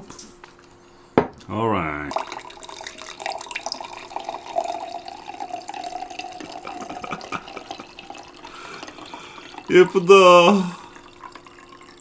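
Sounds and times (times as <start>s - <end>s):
liquid pouring into a glass: 2.1s - 12.0s
liquid splashing and trickling: 2.1s - 12.0s.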